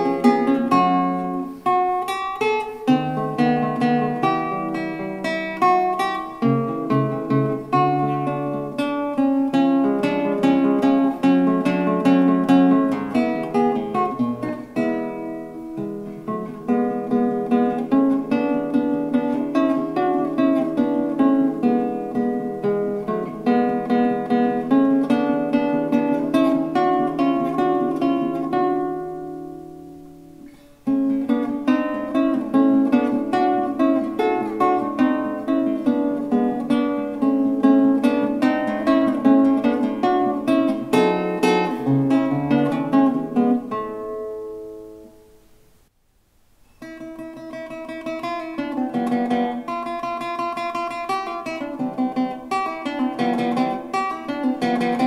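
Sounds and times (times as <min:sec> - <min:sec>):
classical guitar playing: 0:00.0 - 0:45.9, 0:46.5 - 0:55.0.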